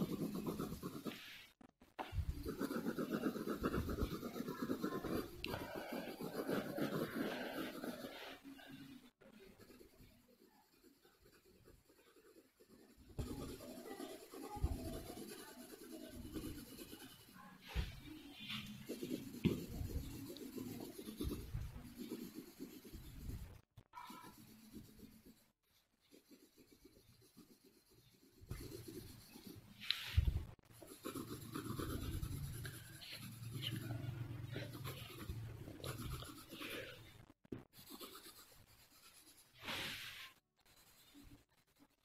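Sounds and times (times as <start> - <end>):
pencil scratching on paper: 0.0 - 42.0.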